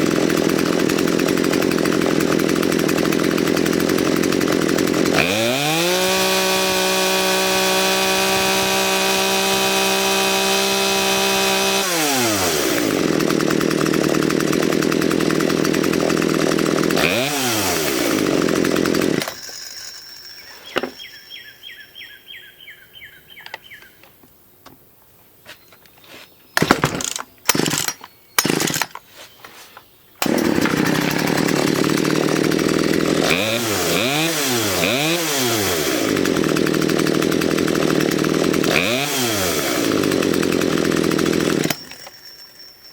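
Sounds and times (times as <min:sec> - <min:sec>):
chainsaw engine revving: 0:00.0 - 0:20.4, 0:26.6 - 0:28.9, 0:30.2 - 0:42.2.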